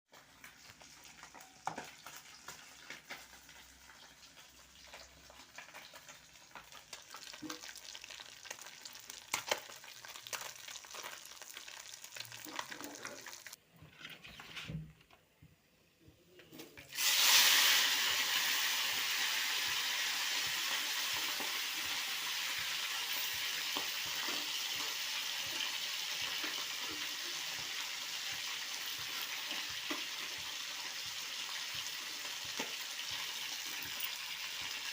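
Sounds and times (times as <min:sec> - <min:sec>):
fish sizzling in hot oil: 0:00.1 - 0:13.6, 0:16.9 - 0:34.9.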